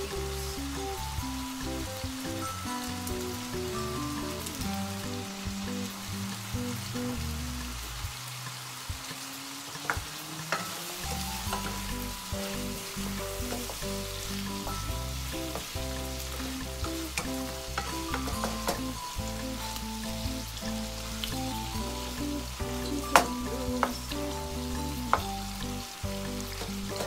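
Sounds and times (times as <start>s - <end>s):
background music: 0.0s - 9.0s, 10.4s - 27.0s
food sizzling in frying pan: 0.0s - 27.0s.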